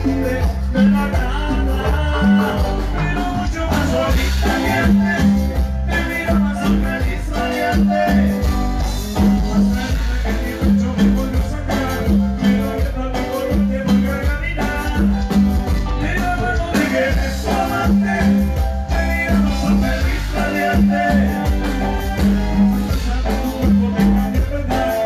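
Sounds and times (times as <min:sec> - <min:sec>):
keyboards: 0:00.0 - 0:25.0
repeating bass line: 0:00.0 - 0:25.0.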